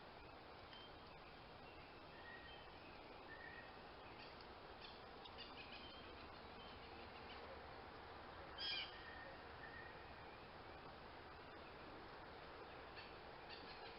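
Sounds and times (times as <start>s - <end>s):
songbird chirps and whistled calls: 0.0s - 7.6s, 8.4s - 11.9s, 12.6s - 13.9s.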